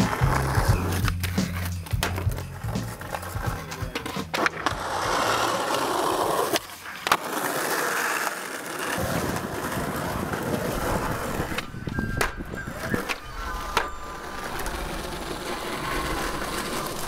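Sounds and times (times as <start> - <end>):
skateboard clacking on ground: 0.0 - 17.0
skateboard wheels rolling on pavement: 0.0 - 17.0.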